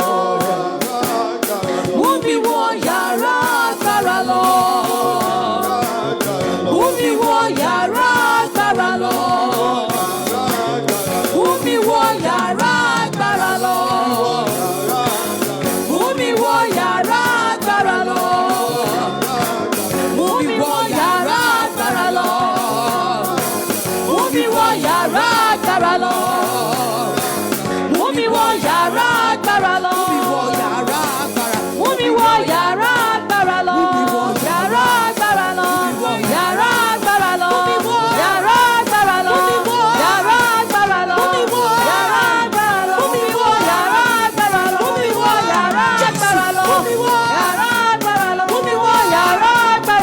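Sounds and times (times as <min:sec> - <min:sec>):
band accompaniment: 0:00.0 - 0:50.0
gospel choir singing: 0:00.0 - 0:50.0.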